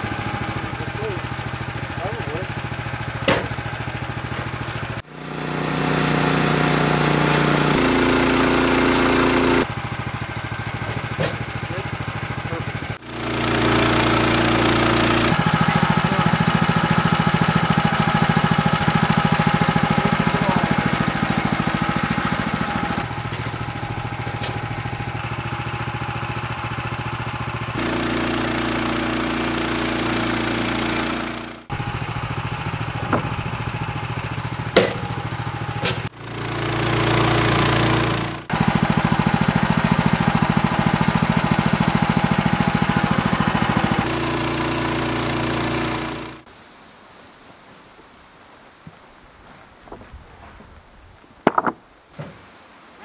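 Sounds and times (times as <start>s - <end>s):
sawmill engine running: 0.0s - 46.5s.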